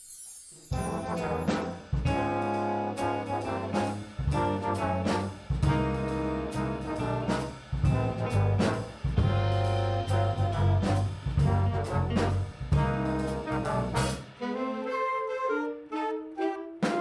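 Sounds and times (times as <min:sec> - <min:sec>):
jazz band playing swing: 0:00.7 - 0:17.0.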